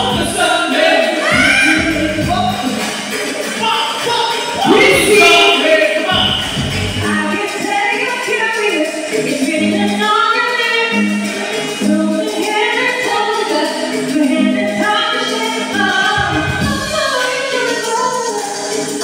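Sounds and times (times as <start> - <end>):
music: 0.0 - 19.0
women singing through pa: 0.0 - 19.0.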